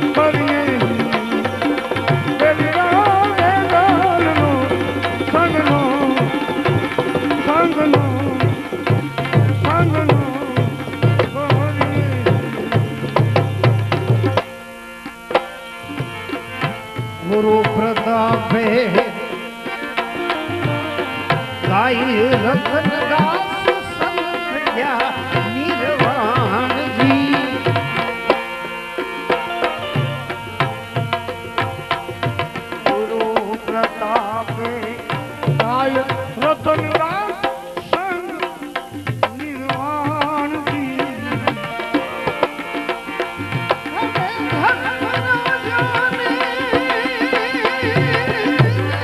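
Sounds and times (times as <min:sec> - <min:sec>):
person singing: 0:00.0 - 0:13.5, 0:17.2 - 0:28.4, 0:32.7 - 0:49.0
tabla rhythm: 0:00.0 - 0:49.0.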